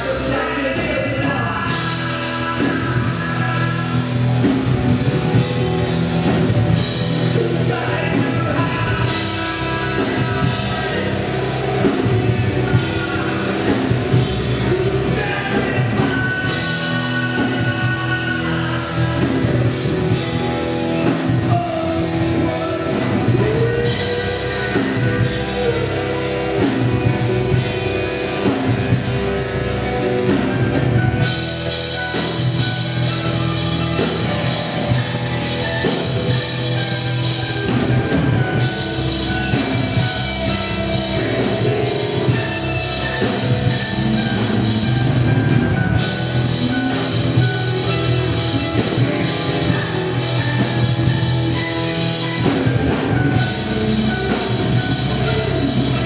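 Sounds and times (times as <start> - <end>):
drum kit: 0.0 - 56.0
electric guitar: 0.0 - 56.0
live rock band playing: 0.0 - 56.0.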